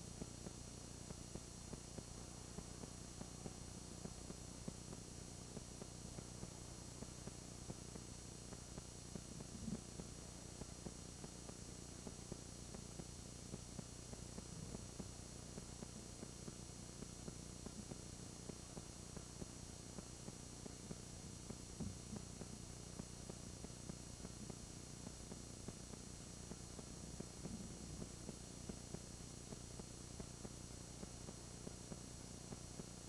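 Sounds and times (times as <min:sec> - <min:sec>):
videotape hum and hiss: 0:00.0 - 0:33.0.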